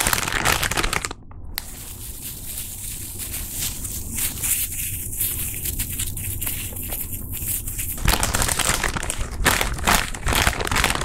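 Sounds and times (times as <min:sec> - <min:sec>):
foil flakes crackling in slime: 0:00.0 - 0:11.0.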